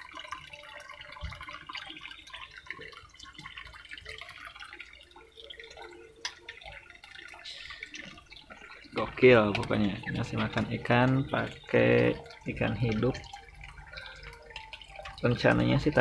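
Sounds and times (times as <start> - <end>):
tap water running into pond: 0.0 - 16.0
water dripping and splashing: 0.0 - 16.0.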